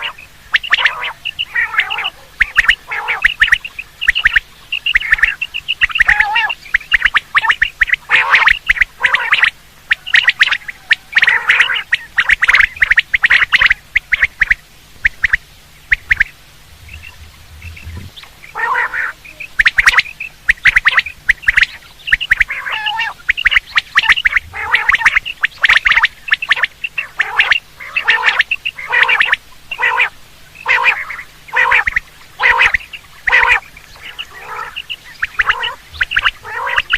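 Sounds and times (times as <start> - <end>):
quail calling: 0.0 - 36.9.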